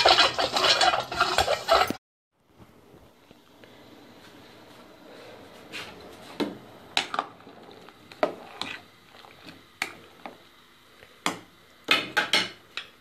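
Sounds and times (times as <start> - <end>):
boiling water hiss: 0.0 - 2.0, 2.7 - 13.0.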